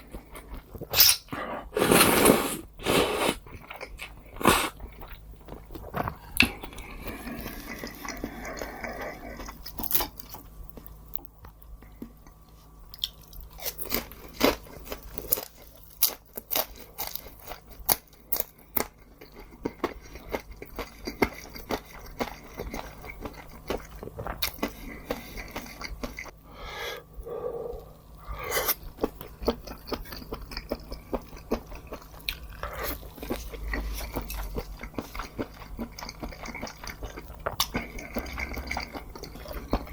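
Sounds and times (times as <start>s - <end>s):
person chewing crunchy food: 0.0s - 26.4s, 27.0s - 39.9s.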